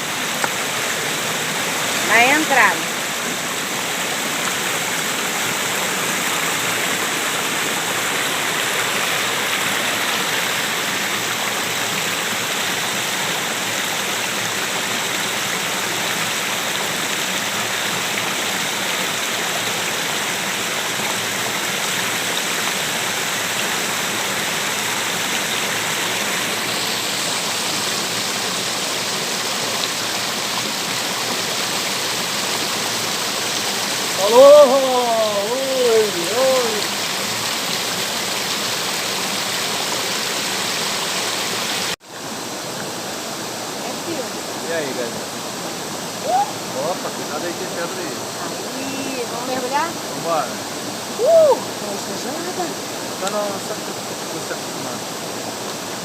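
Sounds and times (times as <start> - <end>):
waterfall and stream rushing: 0.0 - 56.0.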